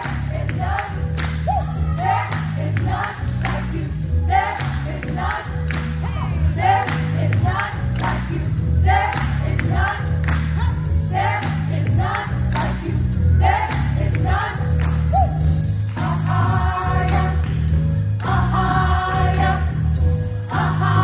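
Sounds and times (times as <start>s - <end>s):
women's choir singing: 0.0s - 15.2s, 16.0s - 17.6s, 18.2s - 21.0s
tambourine: 0.0s - 21.0s.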